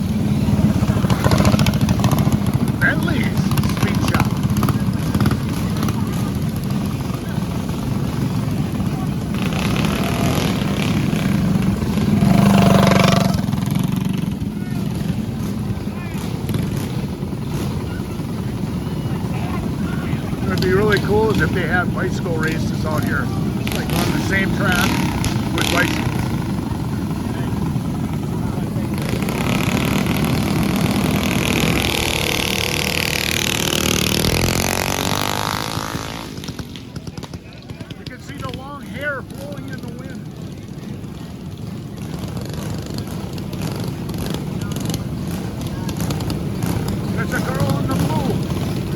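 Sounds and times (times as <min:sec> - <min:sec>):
mini bike engines racing: 0:00.0 - 0:48.9.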